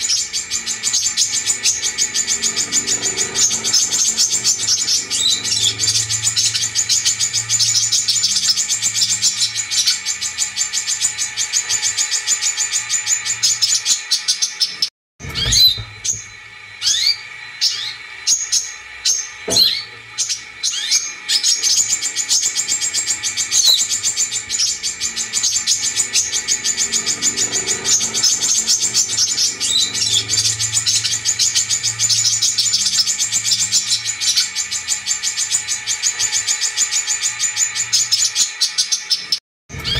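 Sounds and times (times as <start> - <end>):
bird chattering and trilling: 0.0 - 39.9.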